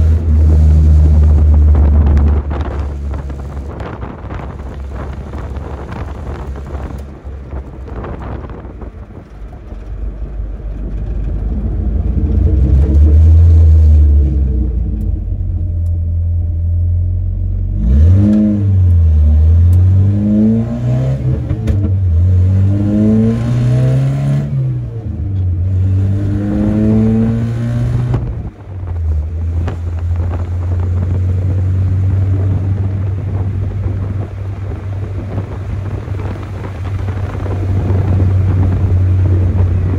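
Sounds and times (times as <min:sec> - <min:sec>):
pickup engine accelerating: 0:00.0 - 0:39.9.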